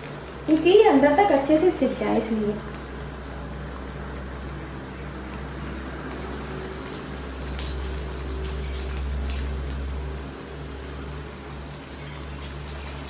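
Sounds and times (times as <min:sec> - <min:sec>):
food sizzling in hot oil: 0:00.0 - 0:13.0
low steady hum: 0:00.0 - 0:13.0.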